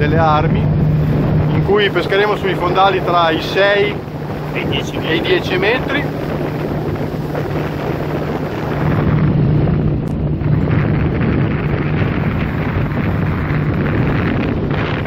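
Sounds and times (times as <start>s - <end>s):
motorboat engine humming: 0.0s - 15.0s
wind buffeting microphone: 0.0s - 15.0s.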